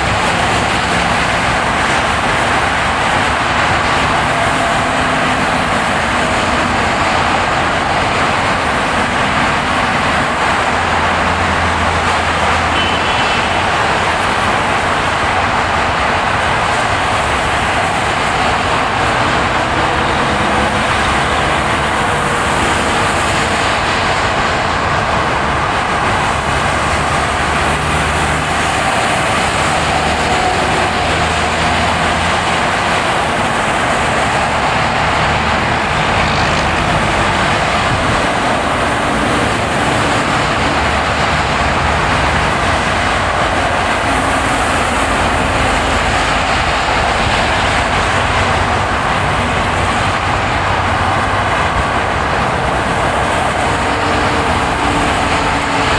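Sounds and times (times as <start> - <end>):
tyre and road noise hiss: 0.0 - 55.9.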